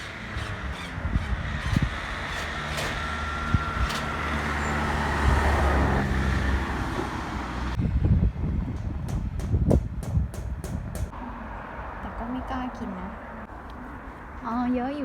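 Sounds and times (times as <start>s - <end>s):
motor vehicle passing: 0.0s - 8.6s, 10.4s - 15.0s.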